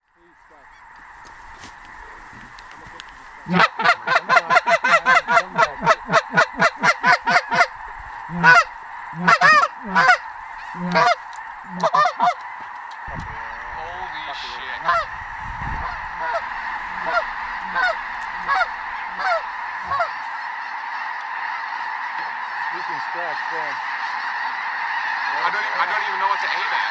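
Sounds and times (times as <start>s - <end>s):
distant geese flock honking: 0.0s - 26.9s
loud close goose honks: 0.1s - 26.9s.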